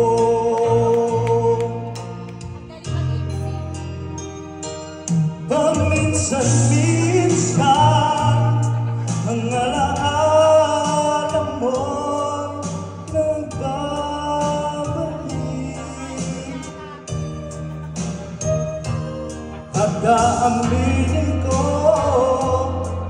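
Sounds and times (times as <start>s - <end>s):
man singing into a microphone: 0.0s - 2.2s, 5.3s - 23.0s
instrumental accompaniment: 0.0s - 23.0s.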